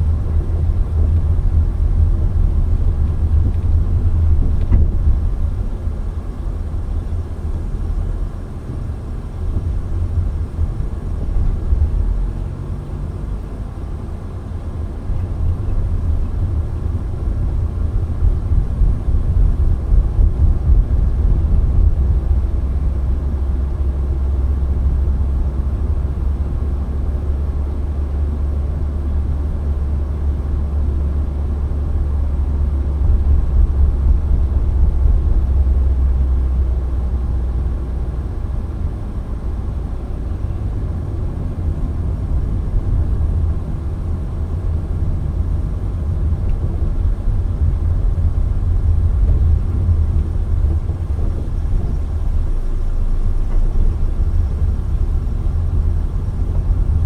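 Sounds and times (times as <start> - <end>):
car engine rumble: 0.0 - 57.0.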